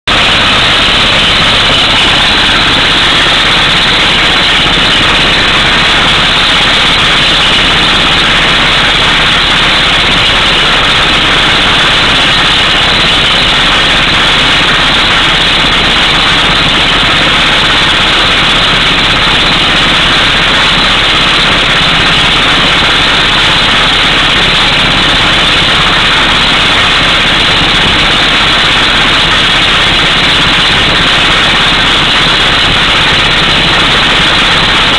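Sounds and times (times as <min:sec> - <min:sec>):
truck engine running: 0:00.0 - 0:34.9
air hammer drilling rock: 0:00.1 - 0:34.9.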